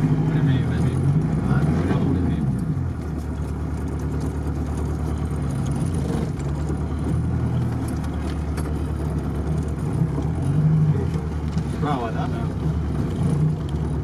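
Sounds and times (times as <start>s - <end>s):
car engine running at low revs: 0.0s - 14.0s
light rattles: 0.3s - 14.0s.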